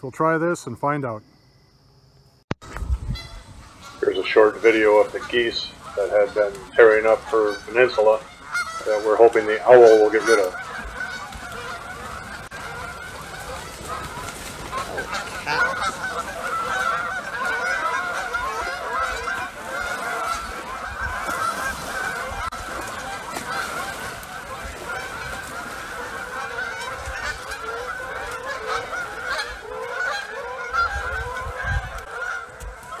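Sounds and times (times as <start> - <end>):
geese honking: 3.1 - 33.0.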